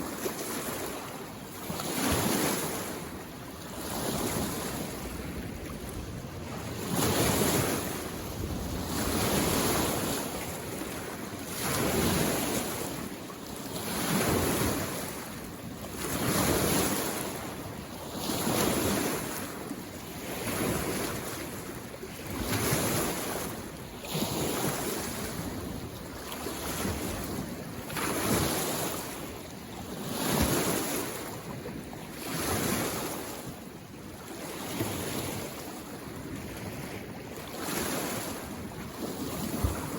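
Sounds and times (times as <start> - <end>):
lake waves washing against shore: 0.0 - 39.9.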